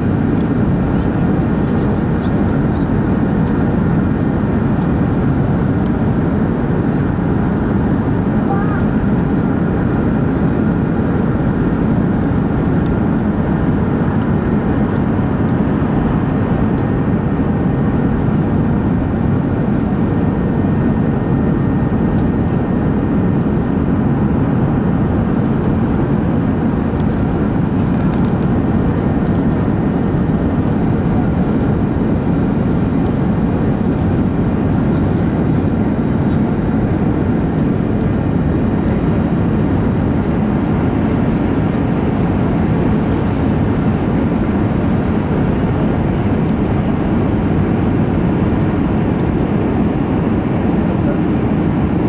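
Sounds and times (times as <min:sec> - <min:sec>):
jet engine and airflow rumble: 0:00.0 - 0:52.0.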